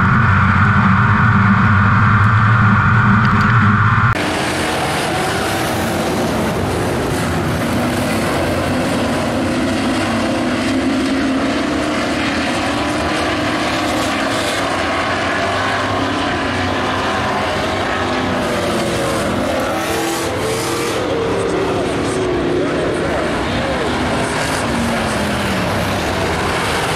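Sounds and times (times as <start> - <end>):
race truck engines droning: 0.0 - 26.9.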